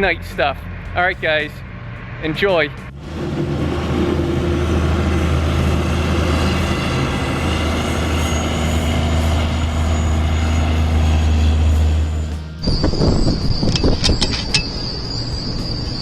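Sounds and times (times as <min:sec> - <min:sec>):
faint high whine: 0:00.0 - 0:16.0
heavy machinery engine droning: 0:00.0 - 0:16.0.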